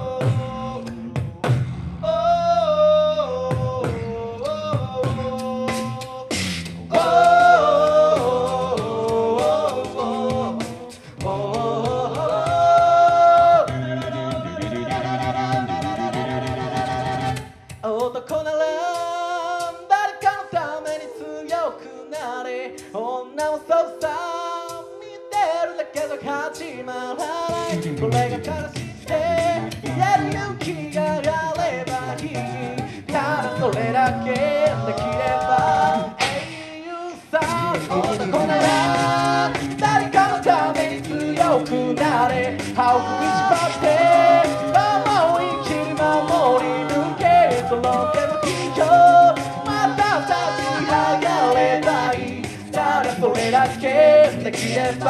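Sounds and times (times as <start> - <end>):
bass voice singing: 0.0 - 21.0, 25.4 - 55.0
a cappella group singing in harmony: 0.0 - 55.0
beatboxing: 0.0 - 55.0.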